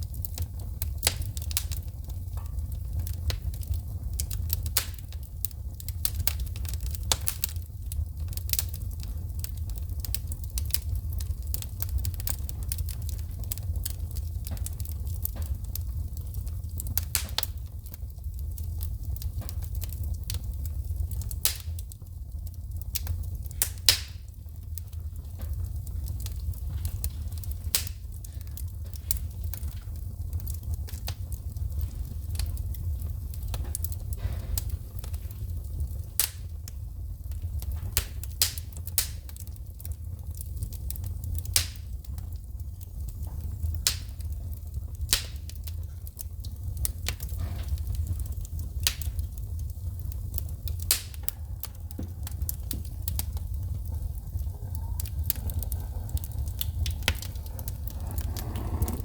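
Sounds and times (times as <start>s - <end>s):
burning logs popping: 0.0s - 59.0s
low rumble of fire: 0.0s - 59.0s
wood fire crackling: 0.0s - 59.0s.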